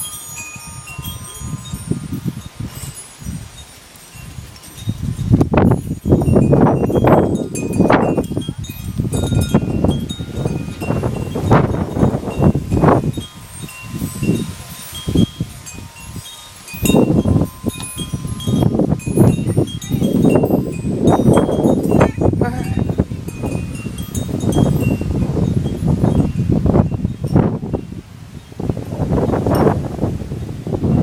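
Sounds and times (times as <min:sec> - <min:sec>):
wind chimes ringing: 0:00.0 - 0:29.9
wind gusting on microphone: 0:00.0 - 0:31.0.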